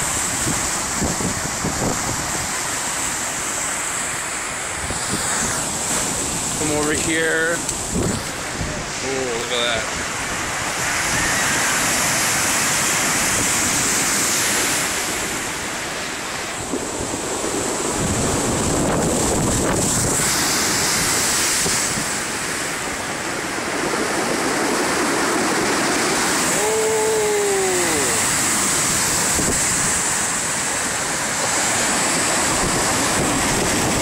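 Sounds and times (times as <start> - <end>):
waves breaking against shore: 0.0 - 34.0
wind gusting on microphone: 0.0 - 34.0.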